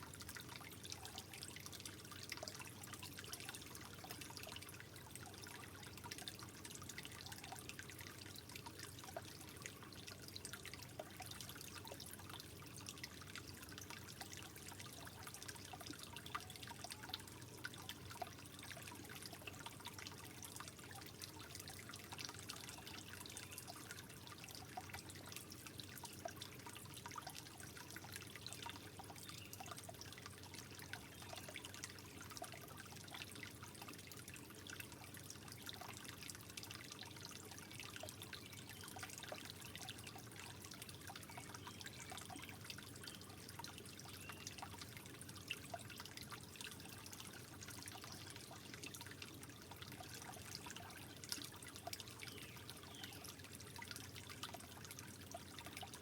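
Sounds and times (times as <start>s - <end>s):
water trickling with drips: 0.0s - 56.0s.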